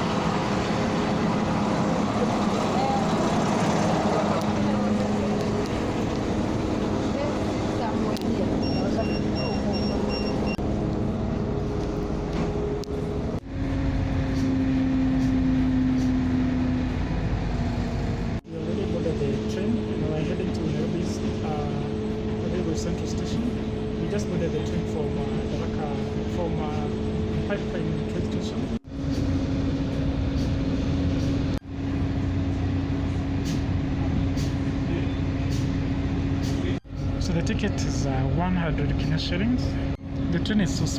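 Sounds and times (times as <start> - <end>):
train rumbling from inside: 0.0 - 40.9.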